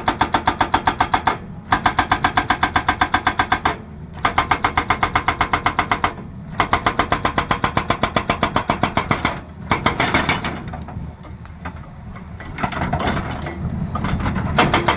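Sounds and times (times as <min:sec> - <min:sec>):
hydraulic breaker hammering: 0:00.0 - 0:10.9, 0:12.2 - 0:14.9
diesel engine running: 0:00.0 - 0:14.9.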